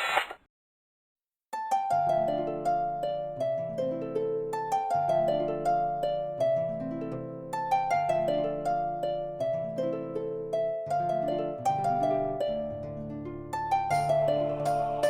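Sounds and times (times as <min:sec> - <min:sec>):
harp playing flowing runs: 0:01.6 - 0:15.0.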